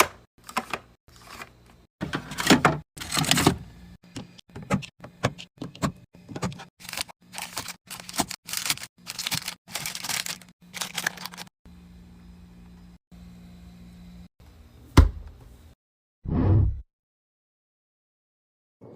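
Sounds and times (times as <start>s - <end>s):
fridge low hum: 0.0s - 15.8s.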